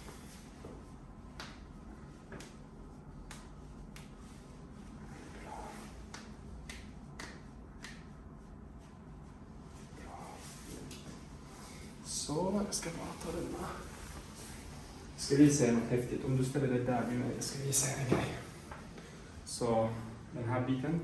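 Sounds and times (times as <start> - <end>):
low steady background noise: 0.0 - 21.0.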